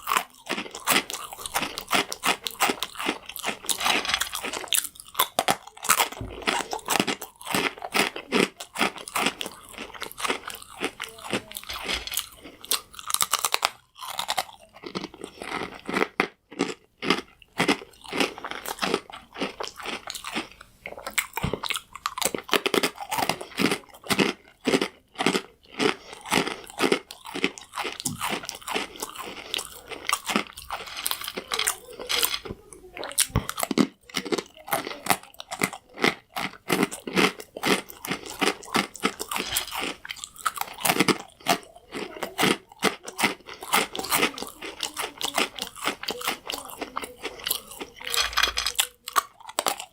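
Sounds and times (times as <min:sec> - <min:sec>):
crunching croutons: 0:00.0 - 0:49.9.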